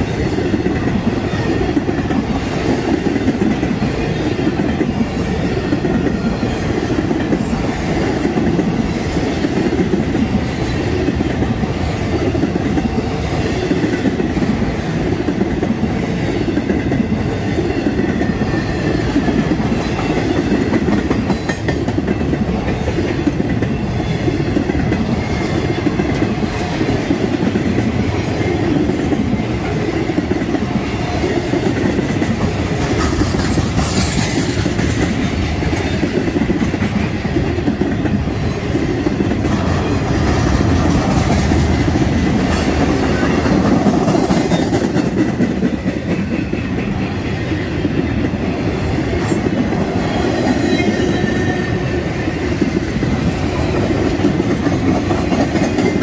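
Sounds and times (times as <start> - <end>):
train wheels clickety-clack: 0.0 - 56.0
train wheels rumbling on rails: 0.0 - 56.0.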